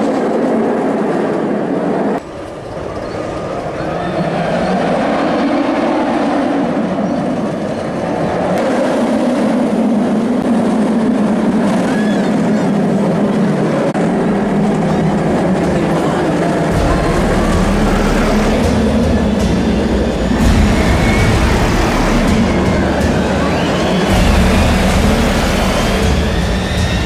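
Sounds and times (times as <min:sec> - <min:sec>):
train rolling on rails: 0:00.0 - 0:27.0.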